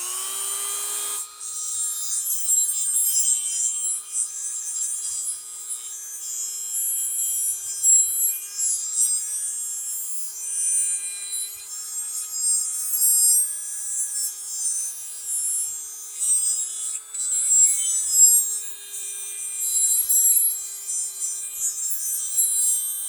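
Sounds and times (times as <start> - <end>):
high grinding rasp on metal: 0.0 - 23.0
rotary tool motor whine: 0.0 - 23.0.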